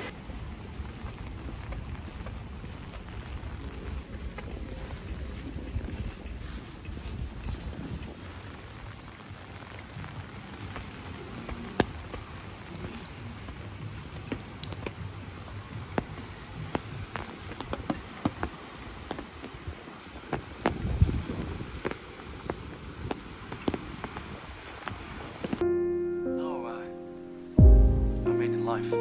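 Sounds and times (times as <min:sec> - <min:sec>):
rain hissing: 0:00.0 - 0:25.9
raindrops tapping: 0:00.1 - 0:25.7.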